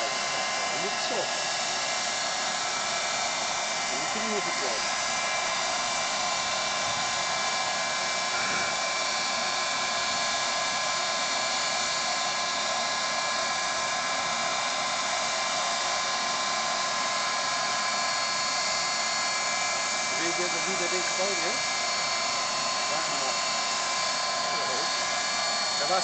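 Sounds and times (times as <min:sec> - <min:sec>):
turbine engine whine: 0:00.0 - 0:26.0.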